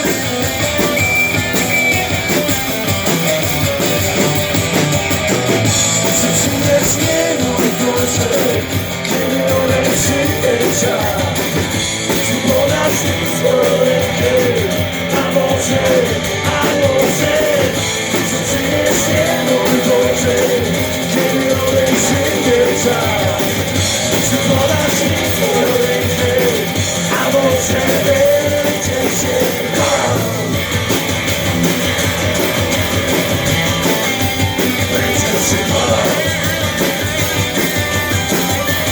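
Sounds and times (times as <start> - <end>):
bending lead guitar melody: 0.0 - 38.9
drums: 0.0 - 38.9
rhythm guitar: 0.0 - 38.9.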